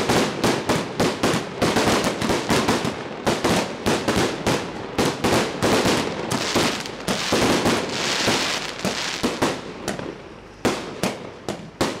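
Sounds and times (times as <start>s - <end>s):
firecrackers cracking: 0.0s - 12.0s.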